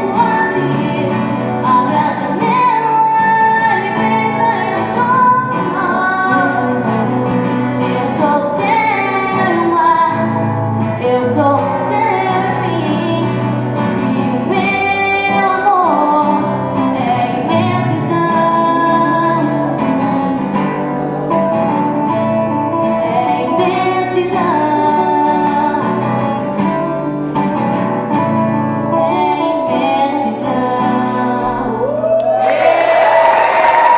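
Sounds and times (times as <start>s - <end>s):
person singing: 0.0s - 20.9s, 22.7s - 27.0s, 28.8s - 33.2s
guitar accompaniment: 0.0s - 33.9s.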